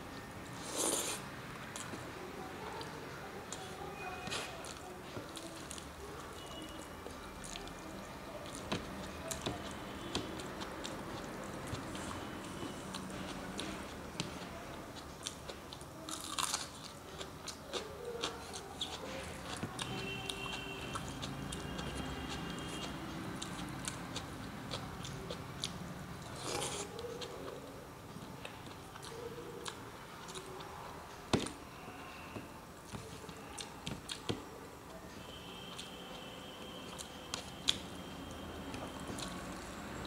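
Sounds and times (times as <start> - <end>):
person chewing with wet clicks: 0.1 - 31.6, 32.9 - 40.0.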